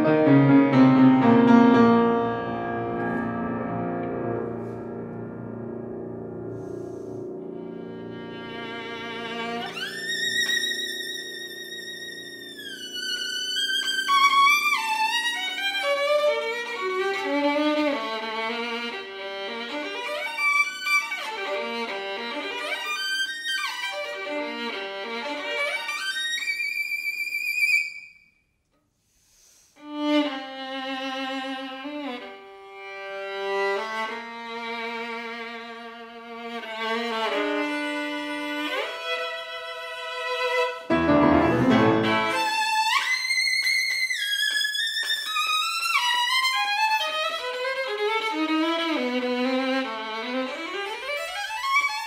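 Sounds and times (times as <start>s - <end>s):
solo violin playing: 0.0s - 5.4s, 6.6s - 28.1s, 29.8s - 52.0s.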